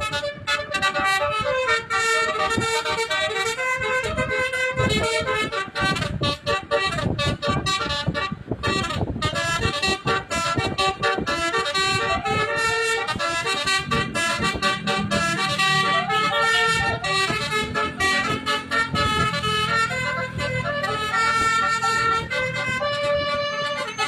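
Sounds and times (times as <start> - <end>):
musical bus air horn tune: 0.0 - 24.0.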